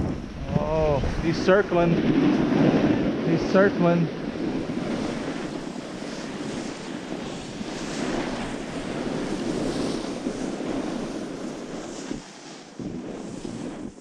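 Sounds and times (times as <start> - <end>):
wind on microphone: 0.0 - 14.0
skis sliding over packed snow: 0.8 - 14.0.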